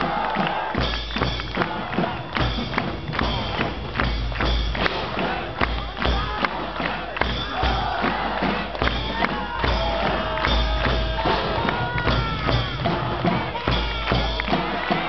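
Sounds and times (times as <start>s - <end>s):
crowd shouting: 0.0s - 15.0s
deep drum thumps: 0.7s - 15.0s.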